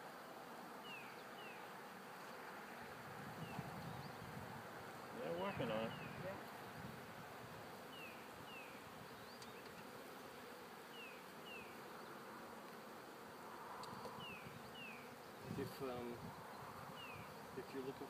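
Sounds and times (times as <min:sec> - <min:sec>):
honey bees humming: 0:00.0 - 0:18.0.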